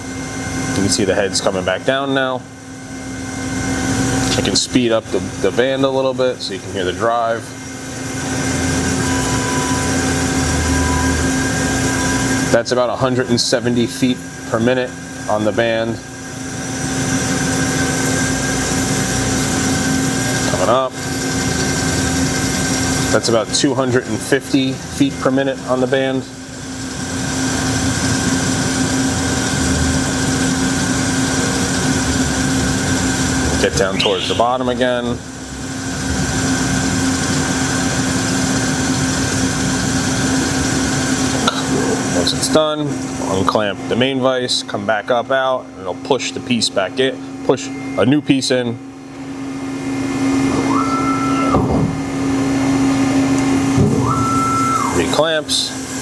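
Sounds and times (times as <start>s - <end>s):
bandsaw running: 0.0s - 47.2s, 50.0s - 56.0s
machine hum: 0.0s - 56.0s.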